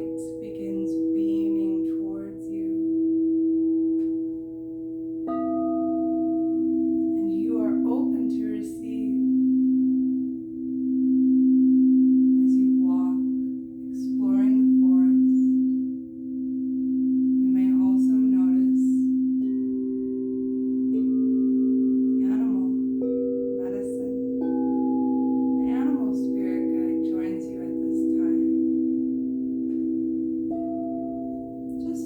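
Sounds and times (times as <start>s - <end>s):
singing bowls ringing: 0.0s - 32.0s.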